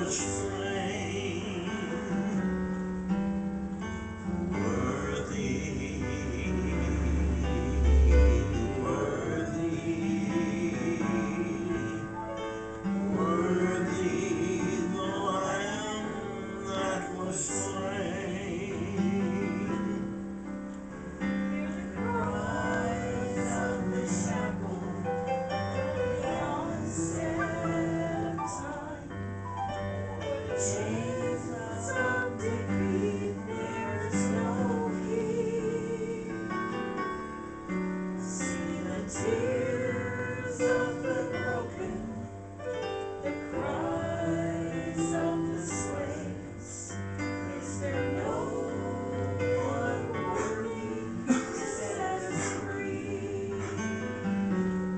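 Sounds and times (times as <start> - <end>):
slow digital piano music: 0.0 - 54.9
voices singing long notes: 0.0 - 54.9.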